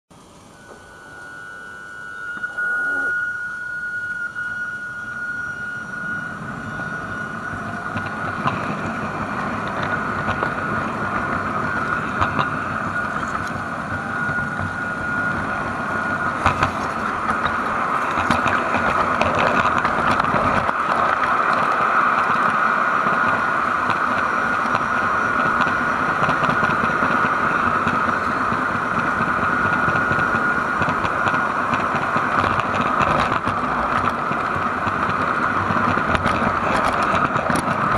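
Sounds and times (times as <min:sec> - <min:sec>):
electric motor and gear whine: 0:00.1 - 0:37.9
wheels rolling on track: 0:00.1 - 0:37.9.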